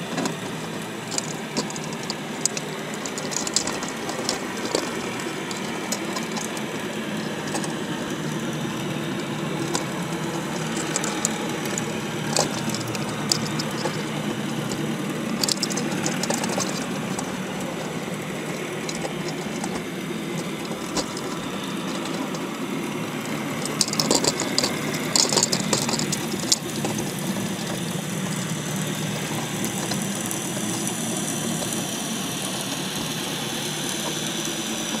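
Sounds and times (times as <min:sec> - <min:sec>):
scraping: 0:00.0 - 0:31.9
underwater motor drone: 0:00.0 - 0:35.0.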